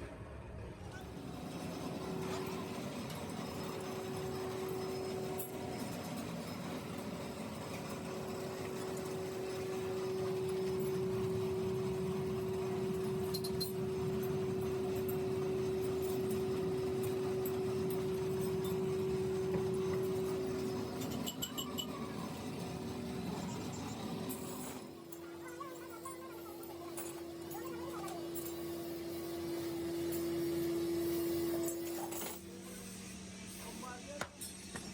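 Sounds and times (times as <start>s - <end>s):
electric machine motor humming: 1.0s - 32.0s.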